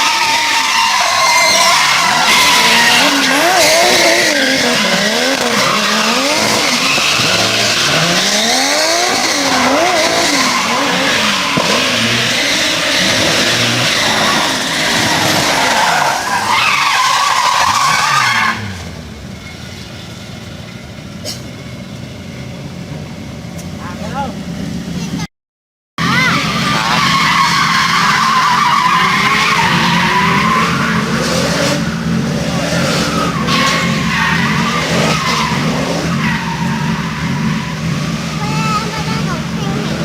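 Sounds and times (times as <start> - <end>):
car engine revving: 0.0 - 19.3, 26.0 - 40.0
tyres screeching: 0.0 - 19.5, 26.0 - 40.0.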